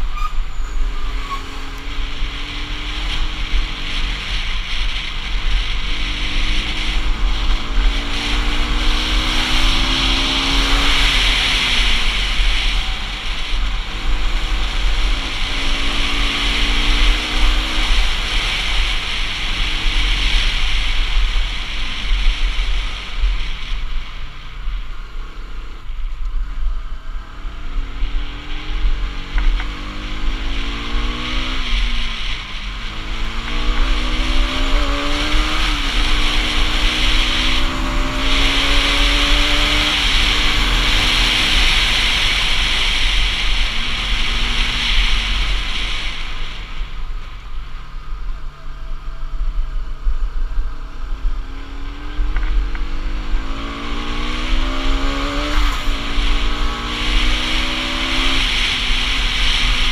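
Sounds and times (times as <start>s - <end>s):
motorcycle engine revving: 0.0s - 59.9s
wind rush on microphone: 0.0s - 59.9s.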